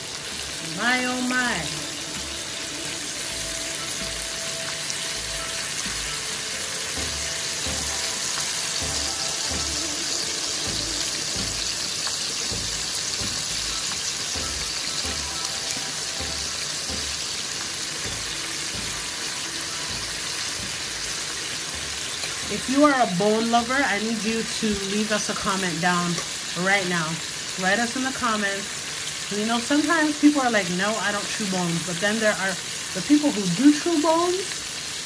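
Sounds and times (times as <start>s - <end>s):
chicken sizzling in hot oil: 0.0s - 35.0s.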